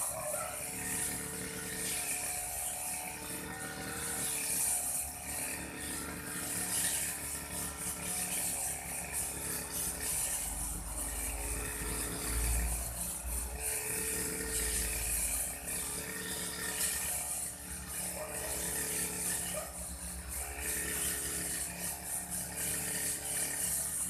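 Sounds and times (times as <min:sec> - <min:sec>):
brush cutter engine cutting grass: 0:00.0 - 0:24.0.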